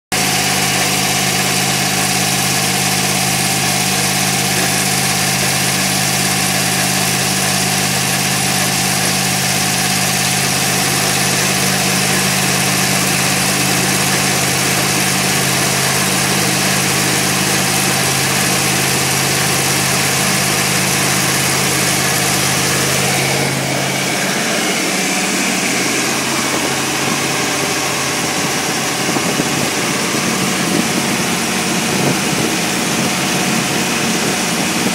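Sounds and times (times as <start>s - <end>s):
engine running on a dyno: 0.1s - 34.9s.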